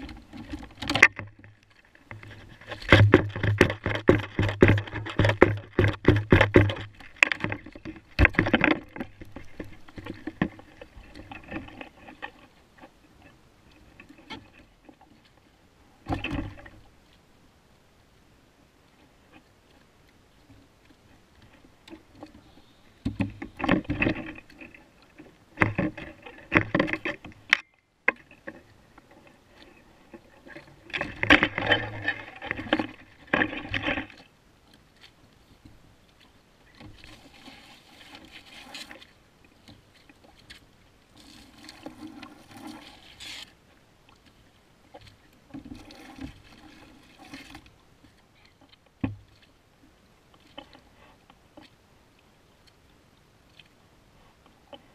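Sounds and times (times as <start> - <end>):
water splashing against kayak: 0.0 - 54.9.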